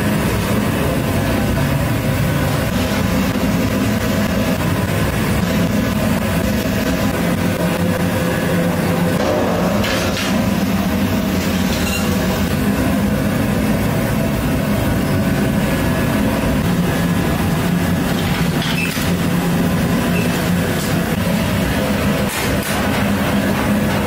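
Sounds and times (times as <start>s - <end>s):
steamer and burner rumbling: 0.0s - 24.0s.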